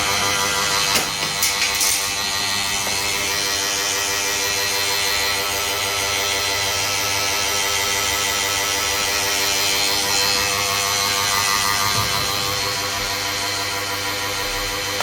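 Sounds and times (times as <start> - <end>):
photocopier running: 0.0 - 15.0.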